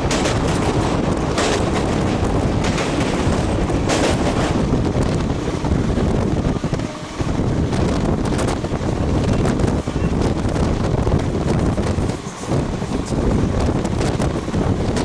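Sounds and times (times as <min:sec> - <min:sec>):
train rumble: 0:00.0 - 0:15.0
wind buffeting microphone: 0:00.0 - 0:15.0.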